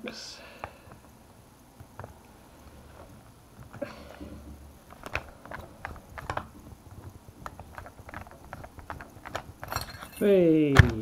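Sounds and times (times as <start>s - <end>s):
small parts clicking and tapping: 1.8s - 11.0s.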